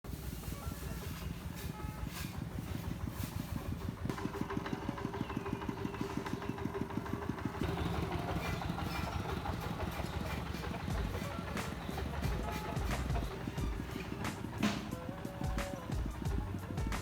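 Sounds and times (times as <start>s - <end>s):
motor running with rapid pulse: 0.2s - 17.0s.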